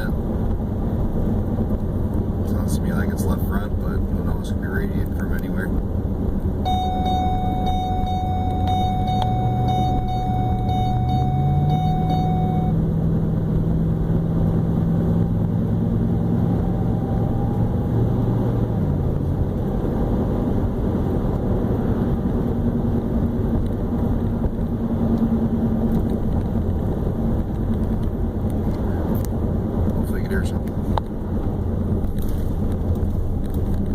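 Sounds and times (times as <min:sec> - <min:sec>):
pickup truck engine rumbling: 0:00.0 - 0:33.9.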